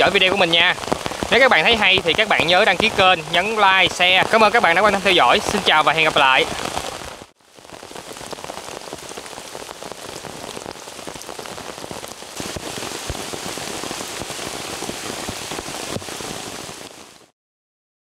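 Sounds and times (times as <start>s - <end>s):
heavy rain on leaves: 0.0s - 17.3s.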